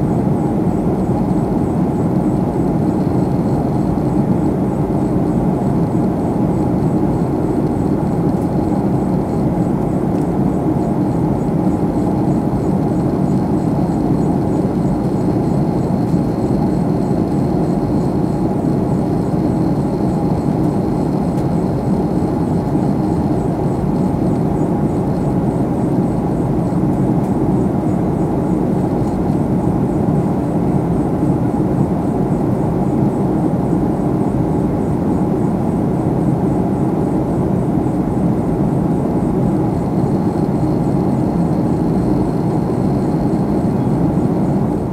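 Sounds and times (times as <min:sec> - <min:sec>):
faint high whine: 0:00.0 - 0:44.9.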